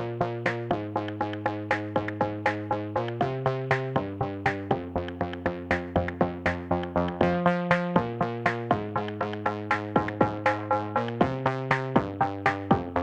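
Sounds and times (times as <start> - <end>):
electronic music with synthesizer: 0.0 - 13.0.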